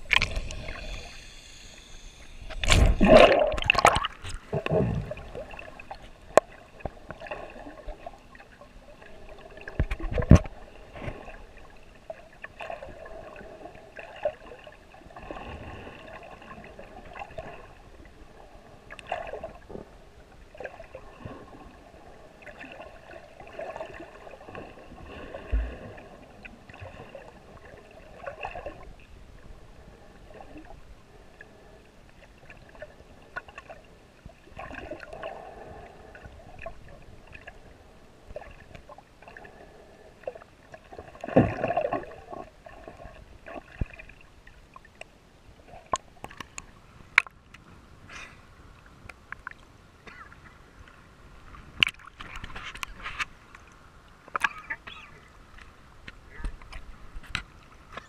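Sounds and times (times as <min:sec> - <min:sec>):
muffled underwater sloshing and gurgling: 0:00.0 - 0:53.5.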